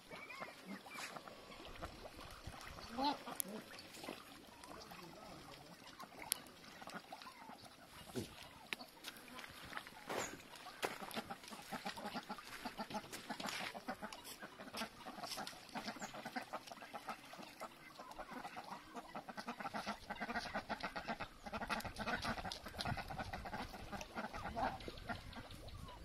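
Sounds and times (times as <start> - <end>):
ducks quacking: 0.0 - 26.0.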